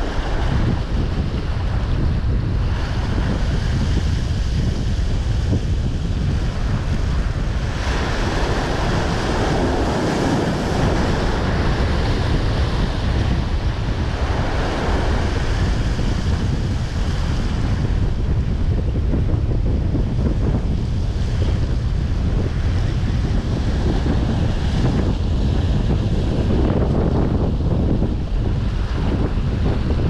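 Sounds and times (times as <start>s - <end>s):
surf breaking over rocks: 0.0s - 30.0s
wind buffeting microphone: 0.0s - 30.0s.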